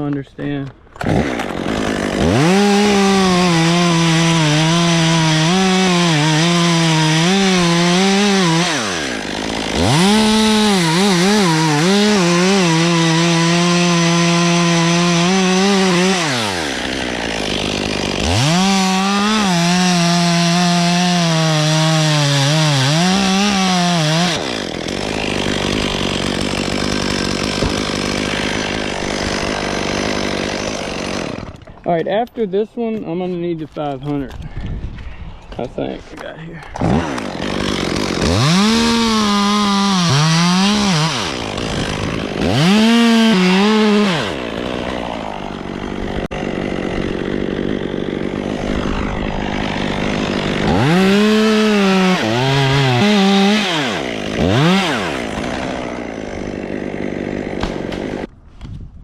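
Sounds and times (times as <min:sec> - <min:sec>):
chainsaw cutting wood: 0:00.1 - 0:33.2, 0:35.8 - 0:58.4.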